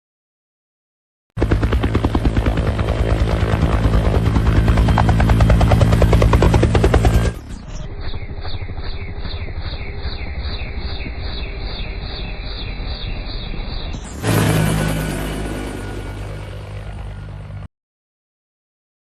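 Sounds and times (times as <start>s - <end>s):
aircraft noise with fast pulsing: 1.4s - 17.7s
quieter slow regular pulsing: 1.4s - 17.7s.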